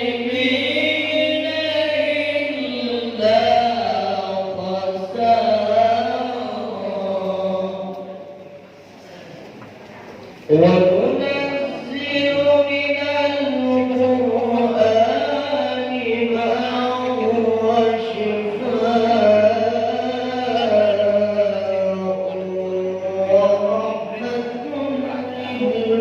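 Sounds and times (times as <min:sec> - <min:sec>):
male voice melodic chanting: 0:00.0 - 0:09.4, 0:10.5 - 0:26.0.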